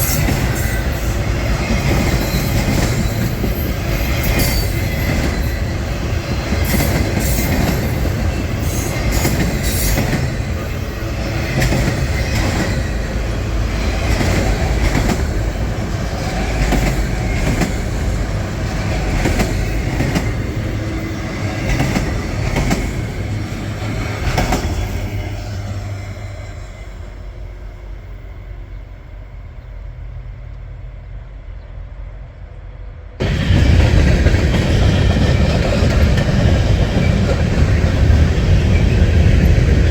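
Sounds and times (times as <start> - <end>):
freight train wheels clacking: 0.0 - 26.0, 33.2 - 39.9
train wheel squeal: 0.0 - 30.5, 33.2 - 39.9.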